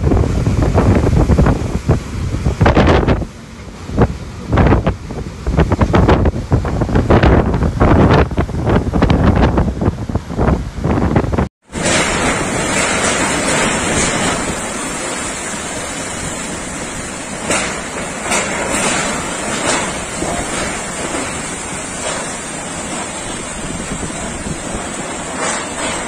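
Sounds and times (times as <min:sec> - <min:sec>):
heavy rain: 0:00.0 - 0:26.0
strong wind: 0:00.0 - 0:26.0
wind buffeting microphone: 0:00.0 - 0:26.0.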